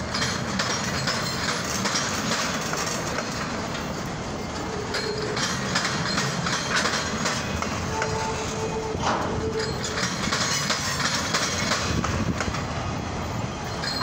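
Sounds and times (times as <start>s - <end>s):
train wheels clattering over rail joints: 0.0s - 14.0s.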